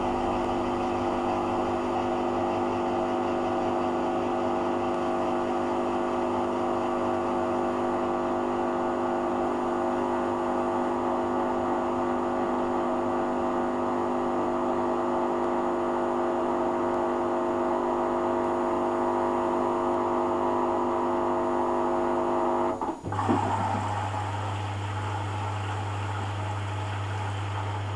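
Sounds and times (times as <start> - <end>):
washing machine motor hum: 0.0 - 27.9.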